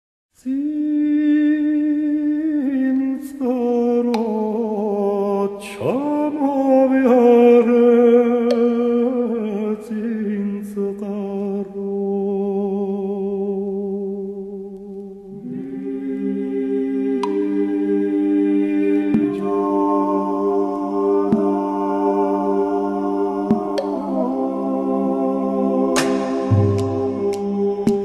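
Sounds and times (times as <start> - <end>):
tenor voice singing folk melody: 0.4 - 28.0.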